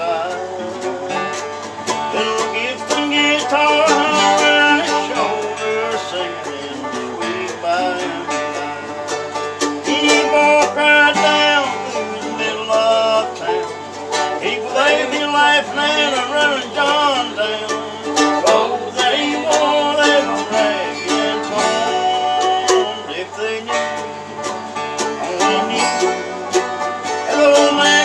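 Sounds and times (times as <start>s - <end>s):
acoustic guitar picking: 0.0s - 28.0s
banjo picking: 0.0s - 28.0s.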